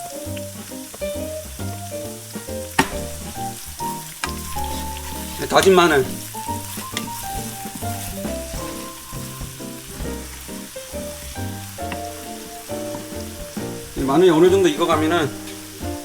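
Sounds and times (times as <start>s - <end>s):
background music with bass: 0.0s - 16.0s
garlic sizzling in a frying pan: 0.0s - 16.0s.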